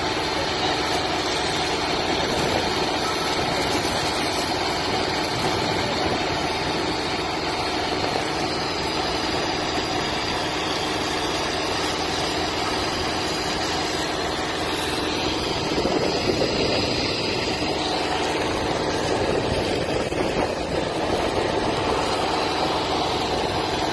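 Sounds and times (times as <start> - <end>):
engine drone: 0.0 - 23.9
high-pressure water jet hissing: 0.0 - 23.9.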